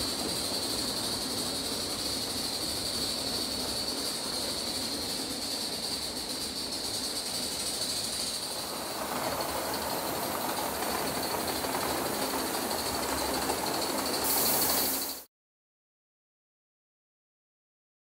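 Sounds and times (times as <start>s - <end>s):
model train wheels rolling on rails: 0.0s - 15.3s
steam hiss: 0.0s - 15.3s
thin high whine: 0.0s - 15.3s.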